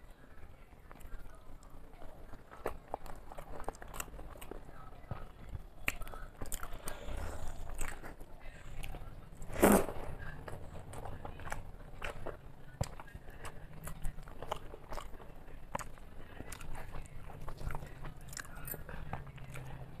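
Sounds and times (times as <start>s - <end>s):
close chewing with wet smacks: 0.9s - 20.0s.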